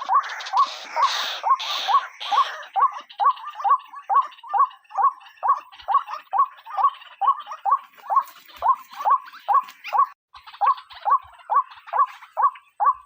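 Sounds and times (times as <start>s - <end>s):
waterhen calling: 0.0s - 13.0s.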